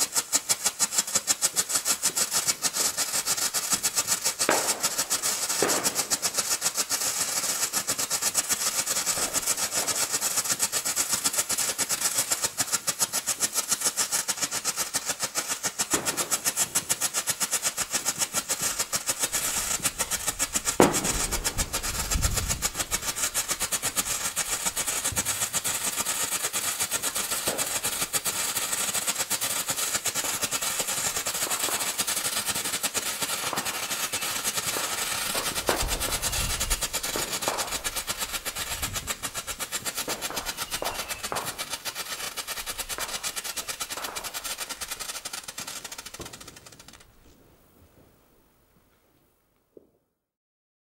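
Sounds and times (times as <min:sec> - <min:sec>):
firework hiss: 0:00.0 - 0:47.5
loud firework crack: 0:00.0 - 0:48.2
strobe firework pops: 0:00.0 - 0:48.2.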